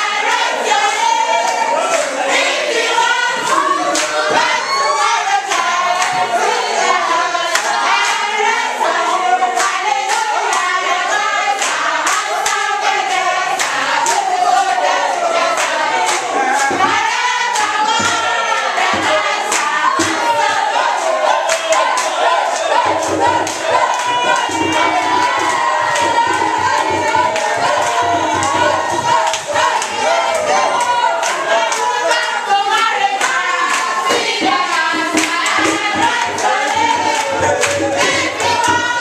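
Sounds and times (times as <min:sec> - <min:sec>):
group singing in chorus: 0:00.0 - 0:39.0
rhythmic hand clapping: 0:00.0 - 0:39.0.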